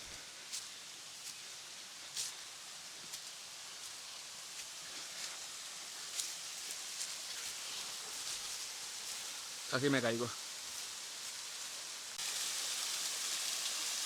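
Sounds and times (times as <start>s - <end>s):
footsteps crunching on leaves: 0.0s - 12.2s
steady rushing hiss: 0.0s - 14.0s.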